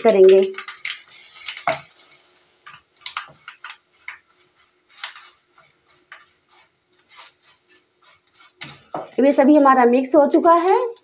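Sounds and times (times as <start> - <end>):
spoon scraping and tapping a pan: 0.0 - 9.3, 10.3 - 11.0.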